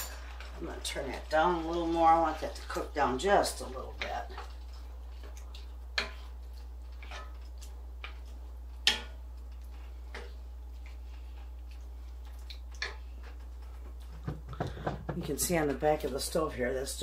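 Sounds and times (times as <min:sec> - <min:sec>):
wooden spoon scraping a skillet: 0:00.0 - 0:16.3.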